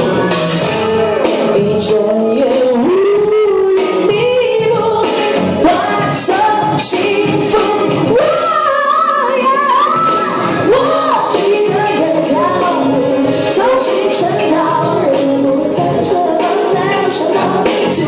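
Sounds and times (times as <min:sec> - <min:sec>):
backing music: 0:00.0 - 0:18.0
woman singing: 0:00.1 - 0:18.0.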